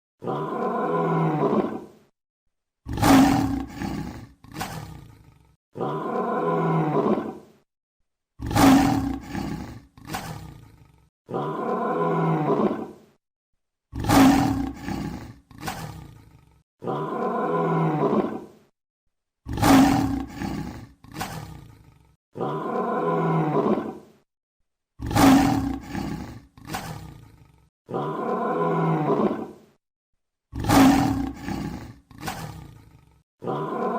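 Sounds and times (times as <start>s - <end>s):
lion roaring: 0.2s - 1.9s, 2.9s - 7.5s, 8.4s - 13.0s, 14.0s - 18.6s, 19.5s - 24.1s, 25.0s - 29.6s, 30.6s - 33.9s.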